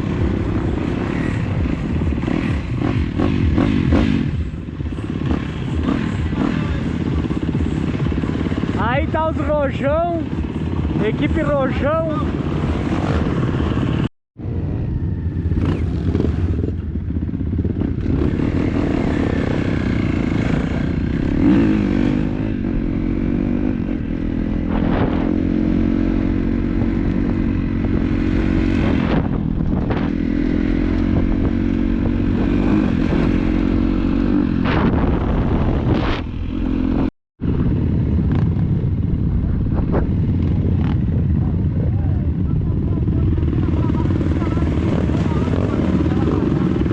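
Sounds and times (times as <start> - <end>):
dirt bike engine running: 0.0 - 14.1, 15.0 - 46.9.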